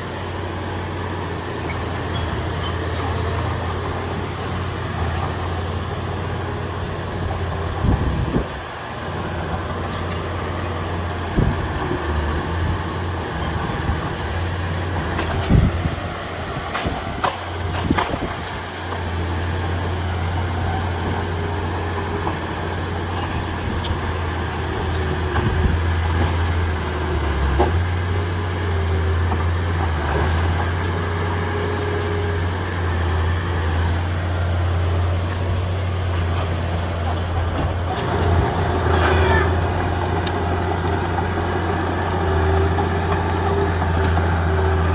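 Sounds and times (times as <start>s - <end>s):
diesel earth-moving machinery running: 0.0s - 44.9s.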